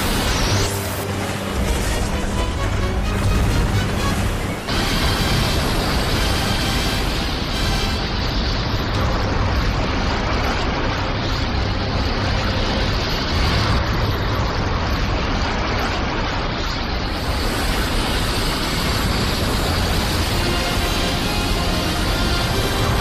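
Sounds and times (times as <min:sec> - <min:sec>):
heavy low rumble: 0:00.0 - 0:23.0
loud rushing noise: 0:00.0 - 0:23.0.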